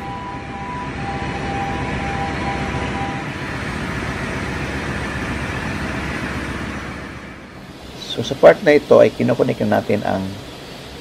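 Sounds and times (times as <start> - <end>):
alarm steady tone: 0.0 - 11.0
engine room machinery din: 0.0 - 11.0.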